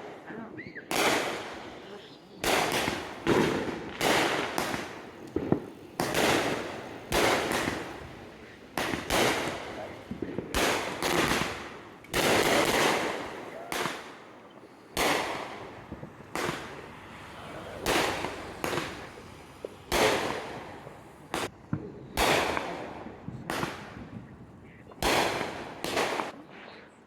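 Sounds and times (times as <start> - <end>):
fireworks bangs echoing: 0.0 - 26.6.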